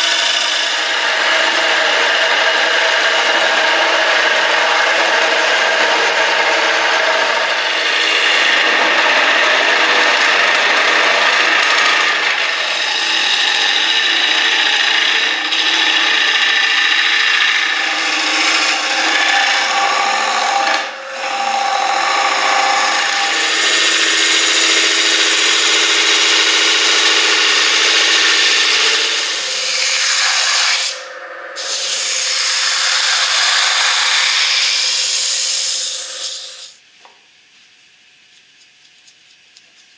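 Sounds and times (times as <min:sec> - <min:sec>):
sanding: 0:00.0 - 0:31.0, 0:31.6 - 0:36.8
gouge scraping spinning wood: 0:00.0 - 0:36.8
lathe motor humming: 0:00.0 - 0:36.8.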